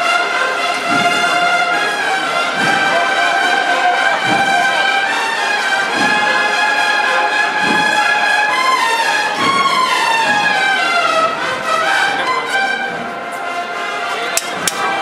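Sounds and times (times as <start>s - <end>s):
brass band playing slow march: 0.0s - 15.0s.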